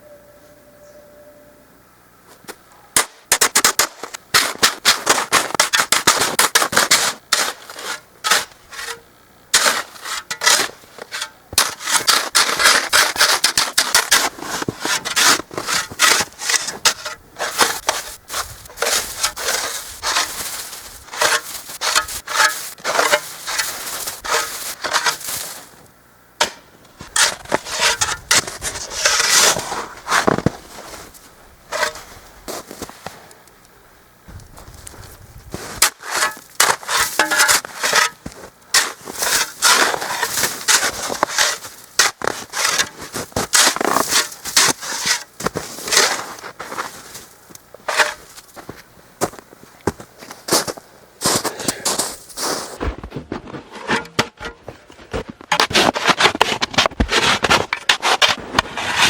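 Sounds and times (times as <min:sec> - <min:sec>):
crunching scraping in snow: 0:03.9 - 0:25.9, 0:26.7 - 0:33.3, 0:34.3 - 0:59.0.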